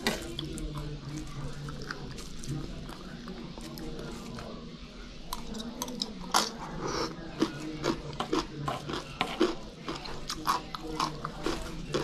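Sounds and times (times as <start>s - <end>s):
chewing and crunching vegetables: 0.0s - 4.6s, 5.3s - 12.0s.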